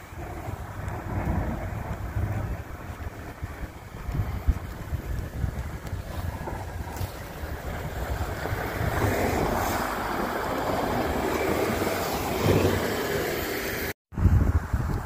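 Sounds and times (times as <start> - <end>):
wind rumble on microphone: 0.0 - 13.1, 14.1 - 15.0
tyres on wet slushy road: 0.0 - 14.0
passing road traffic: 0.0 - 15.0.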